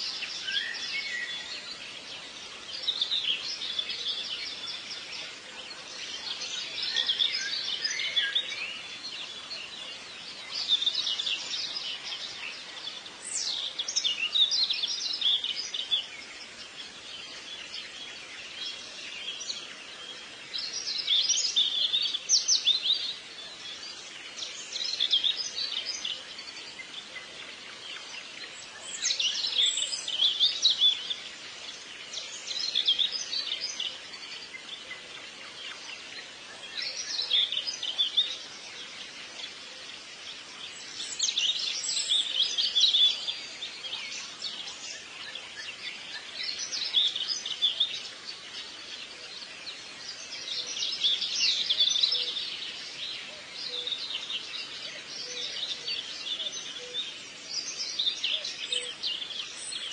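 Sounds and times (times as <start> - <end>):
birds chirping: 0.0 - 59.9
faint background hiss: 0.0 - 59.9.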